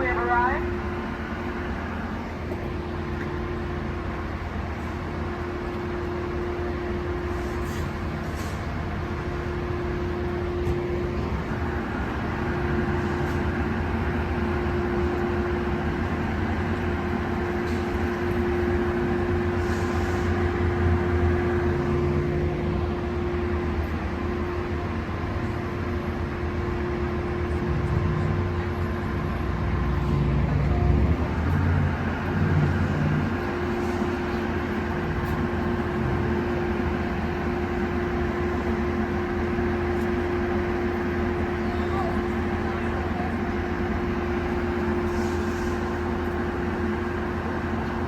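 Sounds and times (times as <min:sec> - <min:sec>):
train idling rumble: 0:00.0 - 0:48.0.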